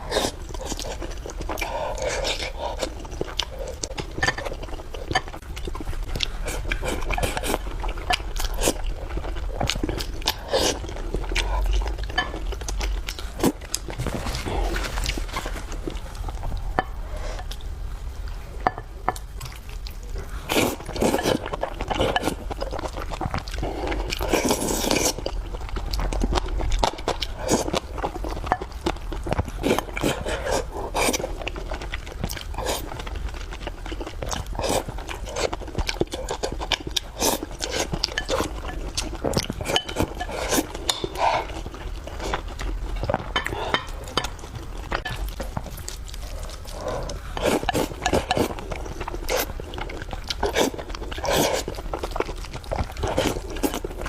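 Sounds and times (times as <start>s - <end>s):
wet chewing and slurping: 0.0s - 17.7s, 19.1s - 54.0s.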